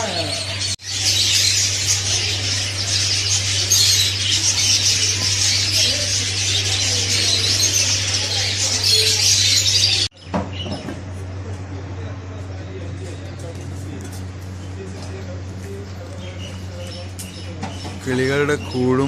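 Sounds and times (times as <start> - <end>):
small birds chirping and chattering: 0.0 - 19.0
steady low hum: 0.0 - 19.0.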